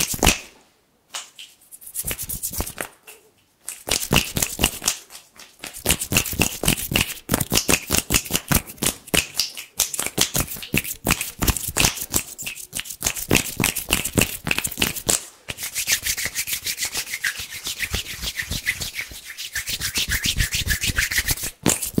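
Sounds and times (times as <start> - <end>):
hands rubbing together: 1.2 - 22.0.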